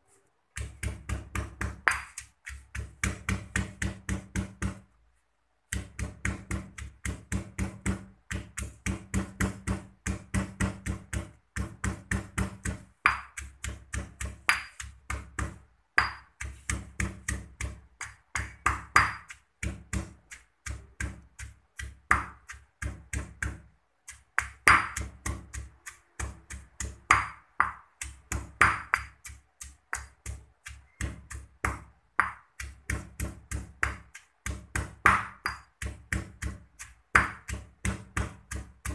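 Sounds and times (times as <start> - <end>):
pestle pounding in stone mortar: 0.5 - 4.9, 5.7 - 38.9.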